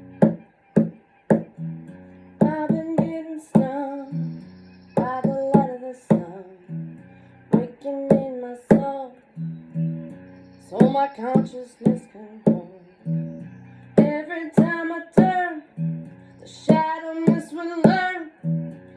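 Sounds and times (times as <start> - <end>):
acoustic guitar percussive strums: 0.0 - 3.8, 5.0 - 6.4, 7.5 - 9.0, 9.8 - 18.9
person singing wordless melody: 1.6 - 18.9.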